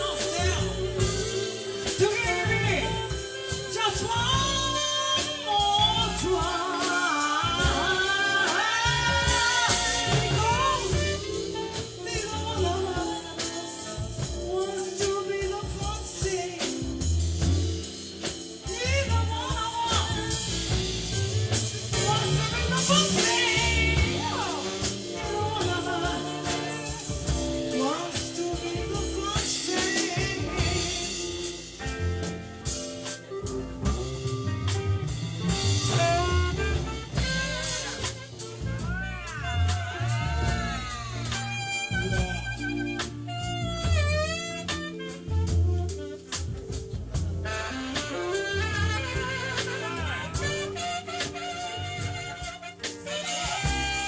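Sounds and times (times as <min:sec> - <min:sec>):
sliding lead melody: 0:00.0 - 0:54.0
soul band playing slow ballad: 0:00.0 - 0:54.0.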